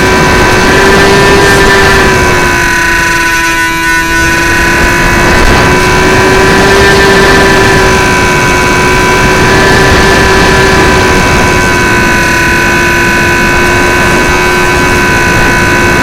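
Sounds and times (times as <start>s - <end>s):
electric motor and propeller whine: 0.0s - 16.0s
wind buffeting microphone: 0.0s - 16.0s.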